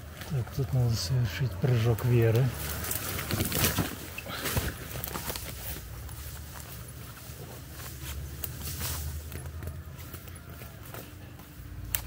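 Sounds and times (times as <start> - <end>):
quiet footsteps: 0.0 - 12.0.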